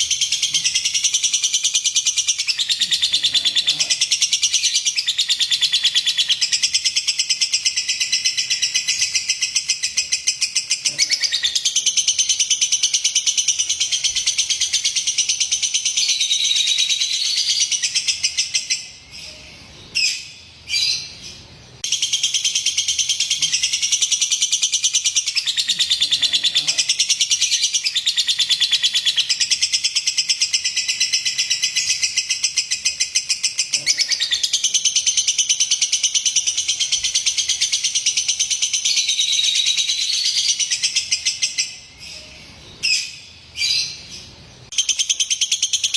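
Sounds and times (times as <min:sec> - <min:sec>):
bird chattering trill: 0:00.0 - 0:21.2, 0:21.8 - 0:44.0, 0:44.7 - 0:45.9.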